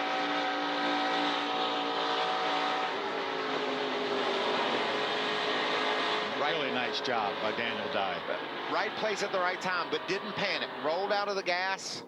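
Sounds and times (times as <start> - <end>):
racing truck engine at high revs: 0.0 - 12.0.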